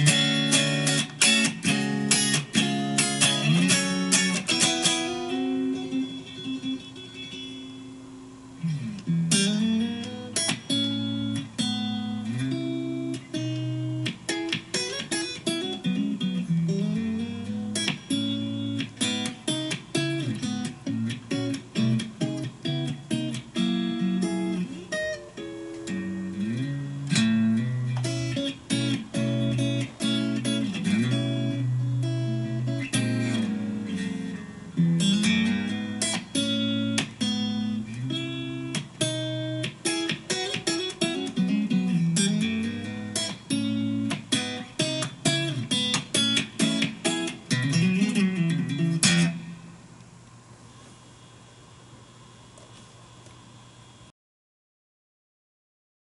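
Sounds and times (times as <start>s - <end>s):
electric guitar funky rhythm: 0.0s - 7.6s, 8.6s - 49.6s.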